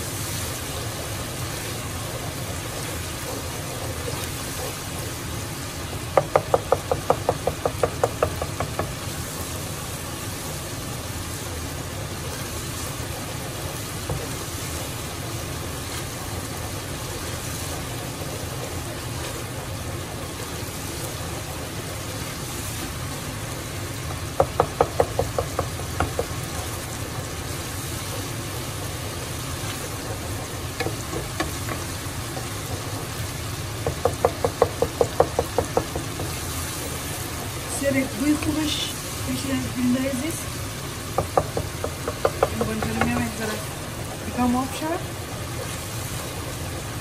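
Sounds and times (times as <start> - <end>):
food sizzling in a pot: 0.0 - 47.0.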